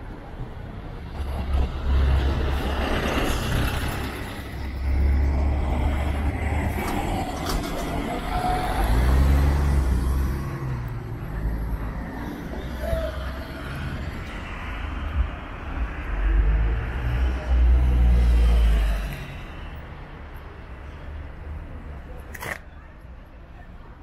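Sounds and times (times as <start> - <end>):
vehicles driving past: 0.0 - 24.0.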